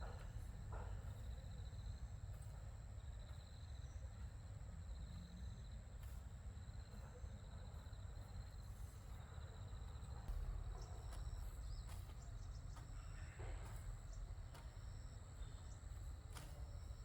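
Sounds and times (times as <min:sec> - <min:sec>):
insects chirping: 0:00.1 - 0:17.0.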